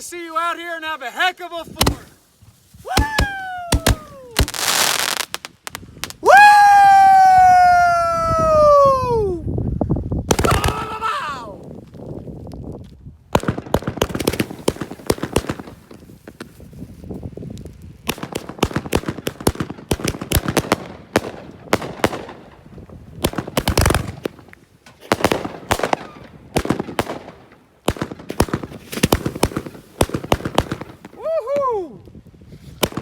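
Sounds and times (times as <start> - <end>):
fireworks popping and crackling: 1.7 - 6.3, 10.3 - 11.0, 11.6 - 33.0.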